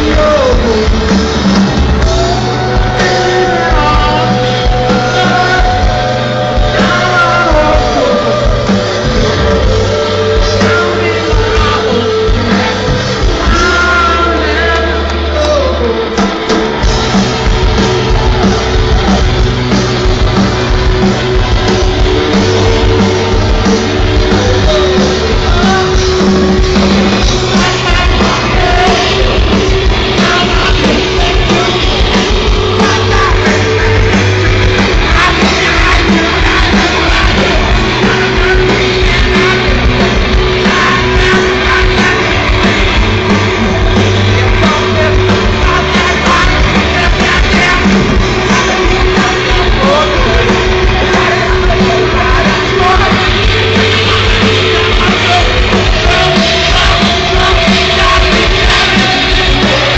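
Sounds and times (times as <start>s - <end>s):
bass guitar: 0.0s - 59.9s
drums: 0.0s - 59.9s
electric guitars: 0.0s - 59.9s
lead singer singing: 0.0s - 59.9s.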